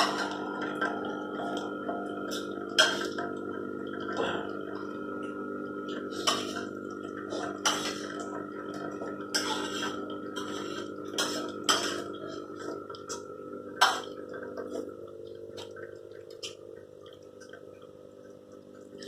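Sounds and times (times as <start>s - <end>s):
espresso machine pump humming: 0.0s - 19.0s.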